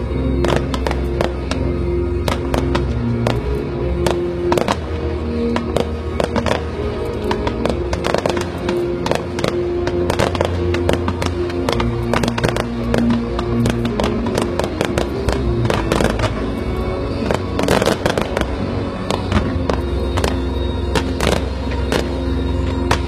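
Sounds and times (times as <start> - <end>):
fireworks bangs and crackles: 0.0 - 23.0
music with long held notes: 0.0 - 23.0.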